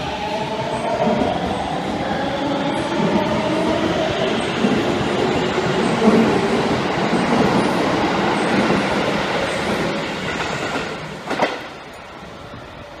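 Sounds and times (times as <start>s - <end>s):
train wheels rumbling over rails: 0.0s - 13.0s.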